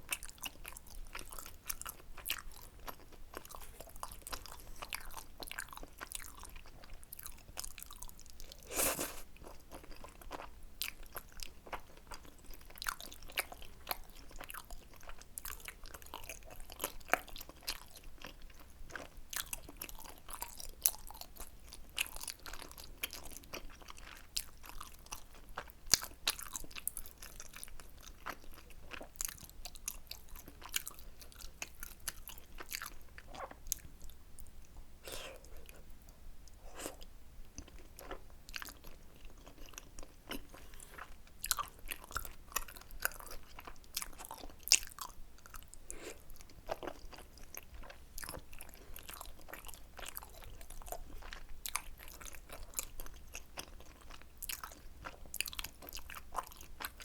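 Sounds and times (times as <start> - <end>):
chewing and biting food: 0.0 - 34.5, 36.5 - 57.0.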